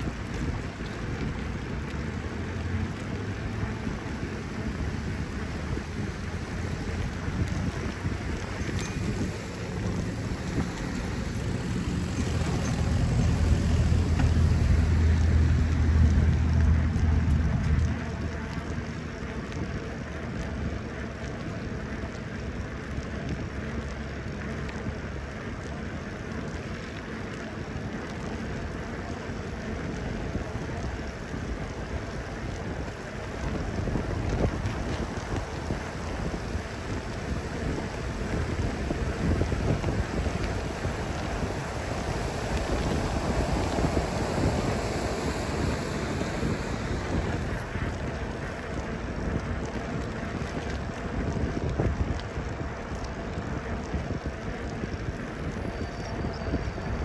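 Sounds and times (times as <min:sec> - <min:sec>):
wind buffeting microphone: 0:00.0 - 0:23.9, 0:24.8 - 0:57.0
low rumble: 0:00.0 - 0:57.0.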